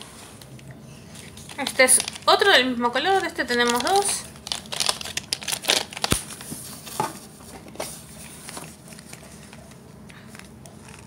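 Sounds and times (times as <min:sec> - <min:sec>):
packaging rustling and crinkling: 0:01.2 - 0:11.0.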